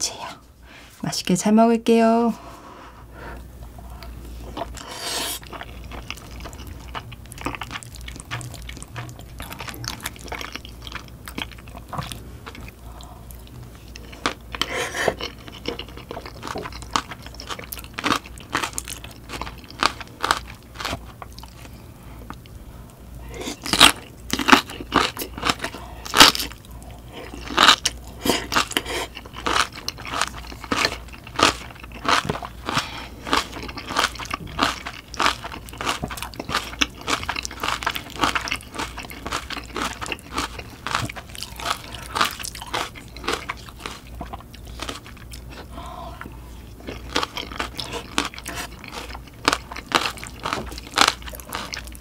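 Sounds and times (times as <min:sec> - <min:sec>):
person chewing with wet mouth sounds: 0:03.8 - 0:52.0.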